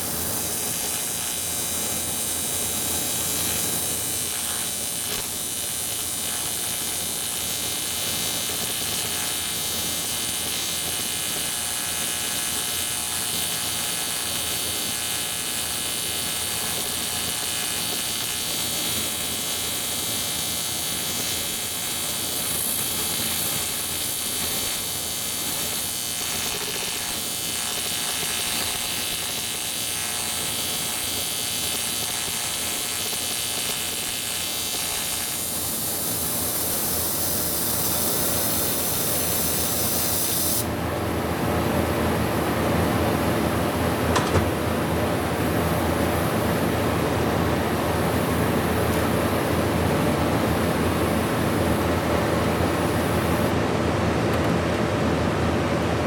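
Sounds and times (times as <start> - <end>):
welding arc buzzing: 0.0 - 40.8, 43.9 - 53.6.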